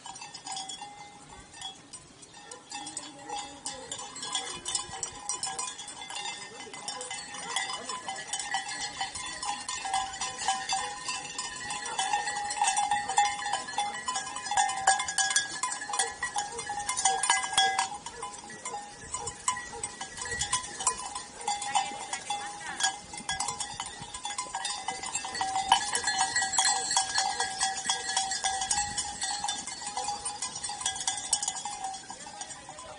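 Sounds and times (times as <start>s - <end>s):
sheep bells clanking: 0.0s - 32.9s.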